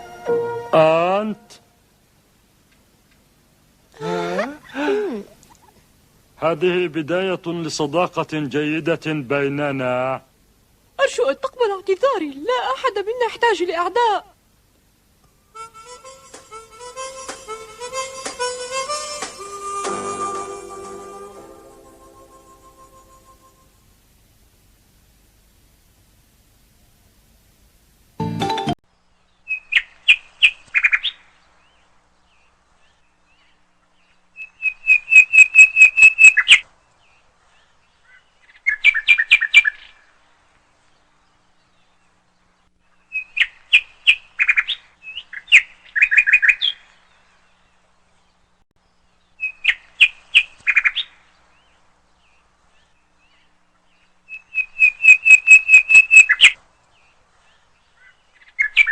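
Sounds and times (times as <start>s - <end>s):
songbird chirping: 0.0s - 26.1s, 26.7s - 58.9s.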